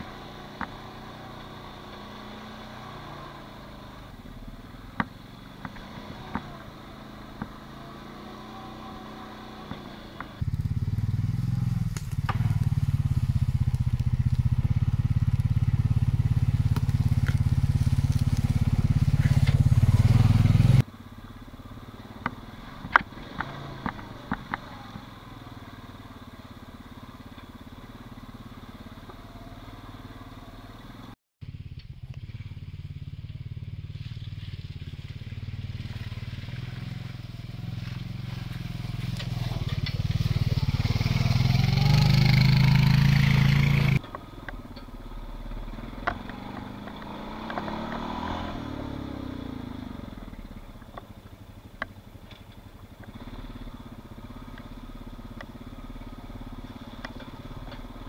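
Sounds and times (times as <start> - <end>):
quad engine running: 0.0 - 58.0.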